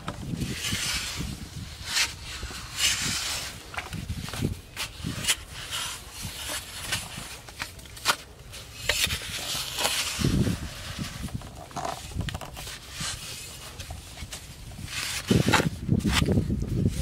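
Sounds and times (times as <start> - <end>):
earth being scraped: 0.3 - 17.0.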